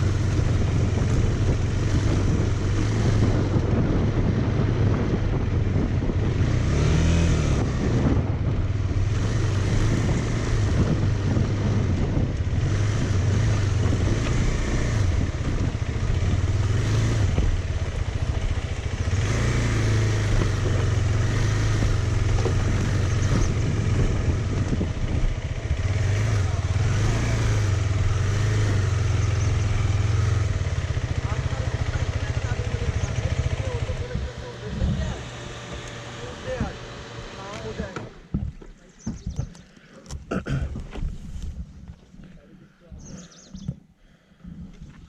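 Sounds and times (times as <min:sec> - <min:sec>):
motorcycle engine revving: 0:00.0 - 0:42.4.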